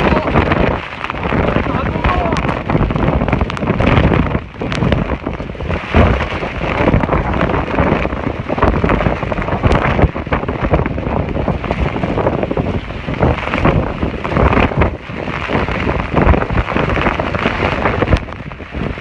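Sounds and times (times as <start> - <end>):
heavy rain on hard surfaces: 0.0 - 19.0
wind buffeting microphone: 0.0 - 19.0.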